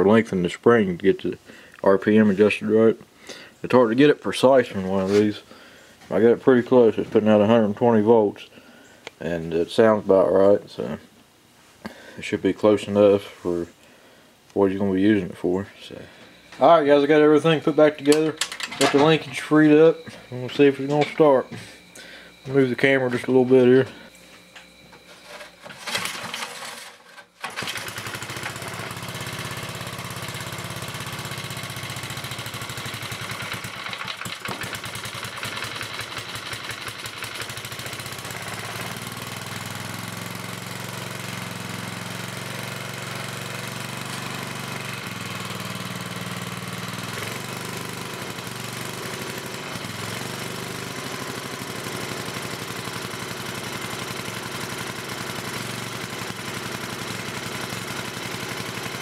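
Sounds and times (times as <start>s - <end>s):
generator engine starting and running: 0.0s - 8.6s, 14.7s - 59.0s.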